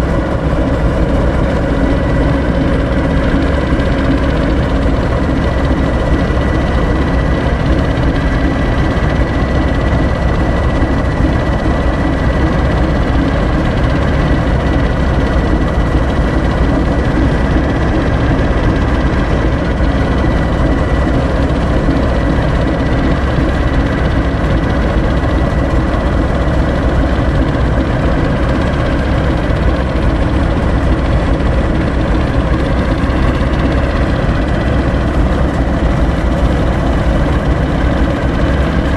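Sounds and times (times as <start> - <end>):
diesel locomotive idling: 0.0 - 38.9.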